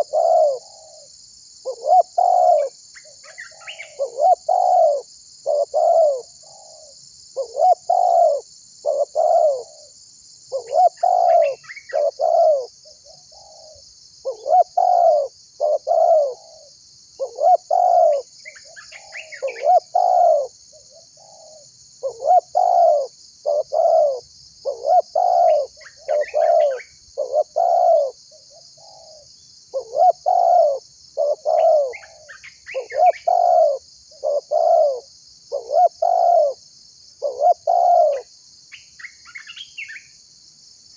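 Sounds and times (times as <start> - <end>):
dove cooing: 0.0 - 9.9, 10.5 - 36.6, 37.2 - 38.3.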